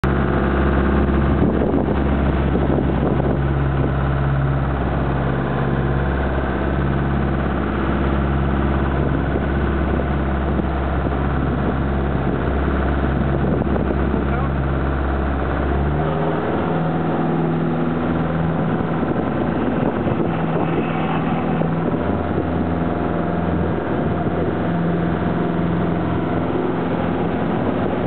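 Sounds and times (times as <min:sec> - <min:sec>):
boat engine idling: 0:00.0 - 0:28.0.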